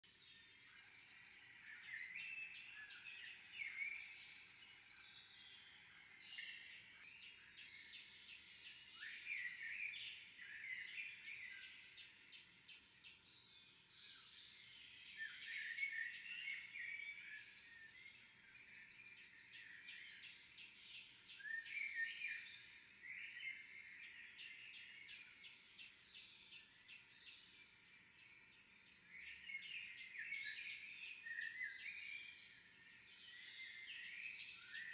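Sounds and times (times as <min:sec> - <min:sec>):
songbird with descending song: 0:00.0 - 0:27.5, 0:28.1 - 0:34.9.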